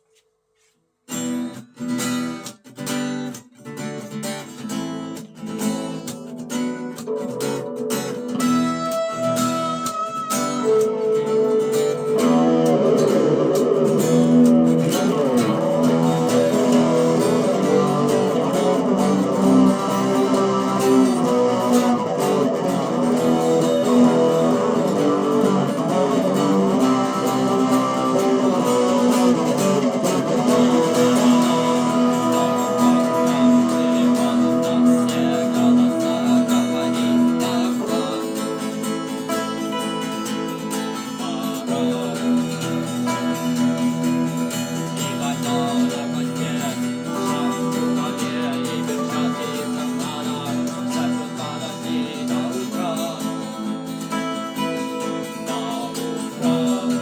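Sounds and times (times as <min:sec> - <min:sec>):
electric guitar playing rock: 0:01.2 - 0:57.0.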